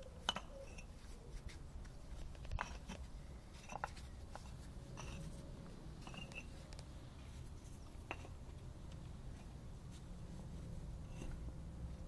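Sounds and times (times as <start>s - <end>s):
faint low rumble: 1.9s - 12.0s.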